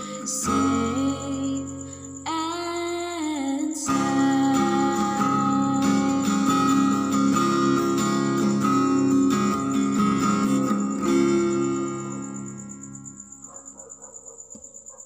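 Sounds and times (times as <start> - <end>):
acoustic guitar strumming: 0.0 - 13.8
crickets chirping: 0.0 - 15.0.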